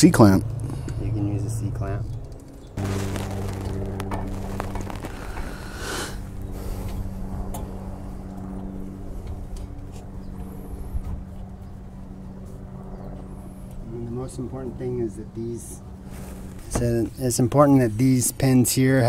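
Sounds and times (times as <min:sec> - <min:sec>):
steady motor hum: 0:00.0 - 0:17.8.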